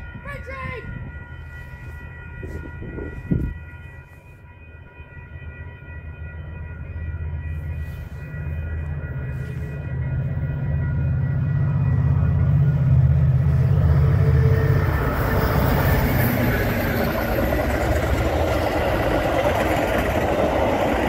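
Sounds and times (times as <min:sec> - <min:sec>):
crossing warning bells ringing: 0:00.0 - 0:21.0
diesel locomotive rumble: 0:00.0 - 0:21.0.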